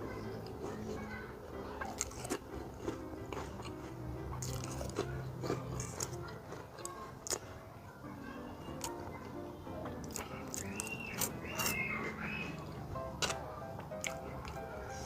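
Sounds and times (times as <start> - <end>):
crunching and chewing food: 0.0 - 15.0.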